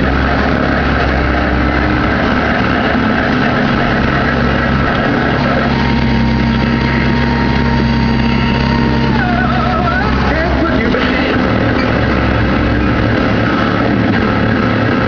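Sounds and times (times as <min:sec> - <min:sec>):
excavator diesel engine running: 0:00.0 - 0:15.0
hydraulic whine: 0:00.0 - 0:15.0.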